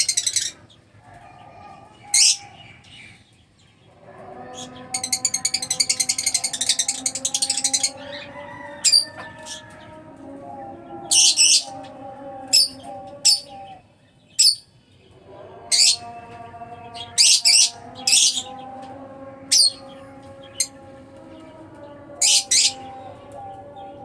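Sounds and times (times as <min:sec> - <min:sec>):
lovebirds chirping: 0:00.0 - 0:24.0.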